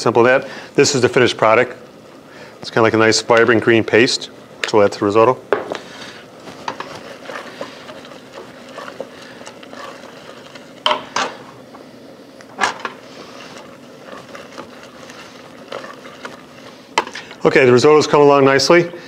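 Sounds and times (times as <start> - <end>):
wooden spoon stirring rice: 2.7 - 12.1, 12.8 - 18.8.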